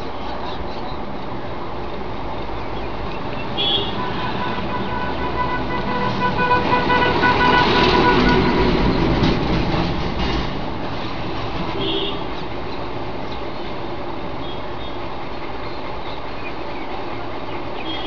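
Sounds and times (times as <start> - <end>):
road vehicle passing: 0.0 - 18.0
steady background noise: 0.0 - 18.0.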